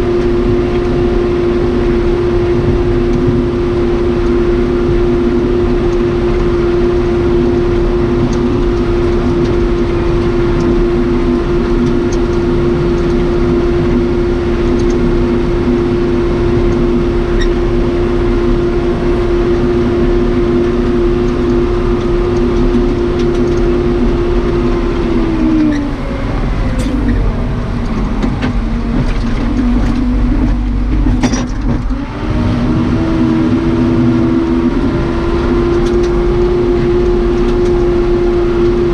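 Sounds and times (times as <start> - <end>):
backhoe diesel engine revving: 0.0 - 38.9.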